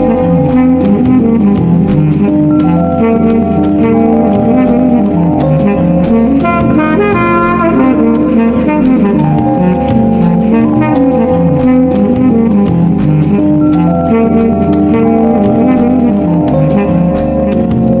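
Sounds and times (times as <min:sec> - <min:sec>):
jazzy tune with saxophone lead: 0:00.0 - 0:18.0.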